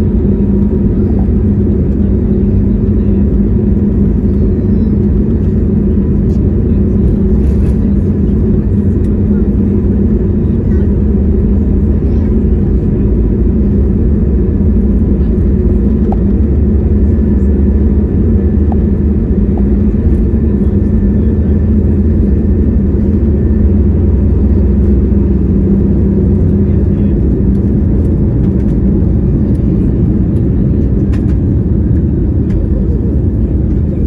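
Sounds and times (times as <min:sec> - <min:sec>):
jet airliner taking off: 0:00.0 - 0:34.0.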